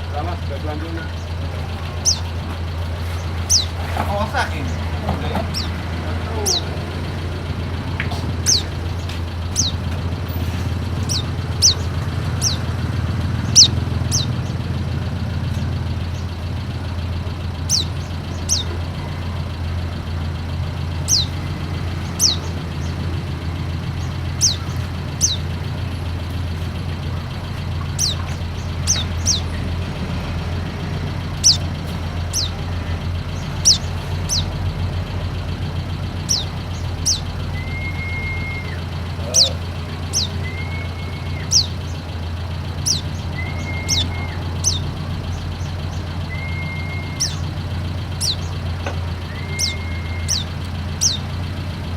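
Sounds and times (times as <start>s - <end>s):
high downward-sliding bird chirps: 1.0s - 16.6s, 17.3s - 34.8s, 36.0s - 51.8s.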